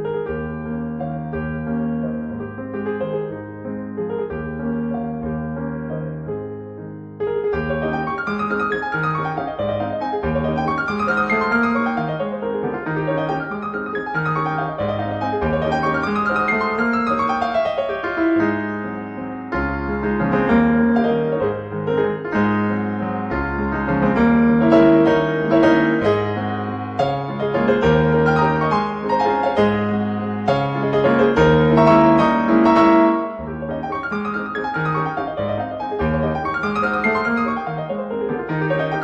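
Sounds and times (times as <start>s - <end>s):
background piano music: 0.0s - 39.0s.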